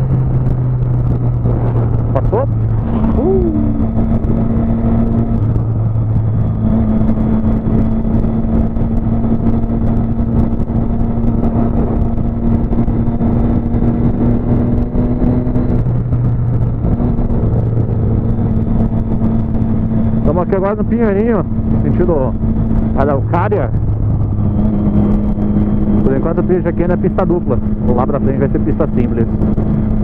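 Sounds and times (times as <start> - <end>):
motorcycle engine cruising: 0.0 - 30.0
wind rushing over microphone: 0.0 - 30.0.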